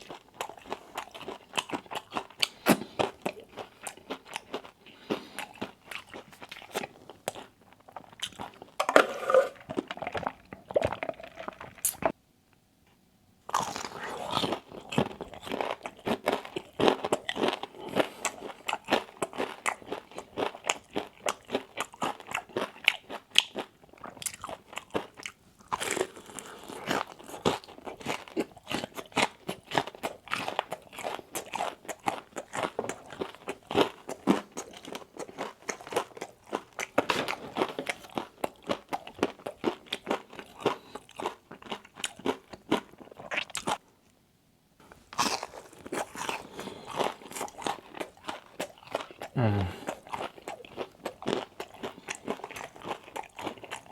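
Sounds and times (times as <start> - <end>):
food crunching and chewing: 0.0 - 12.2, 13.5 - 44.2, 44.8 - 53.9.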